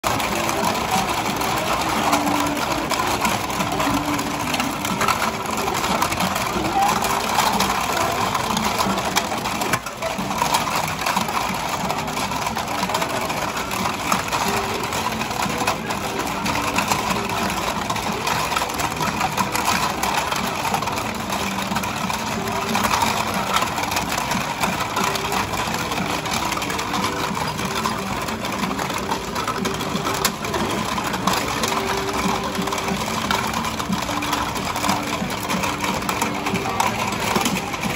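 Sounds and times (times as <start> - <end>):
plastic fish clattering: 0.0 - 37.9.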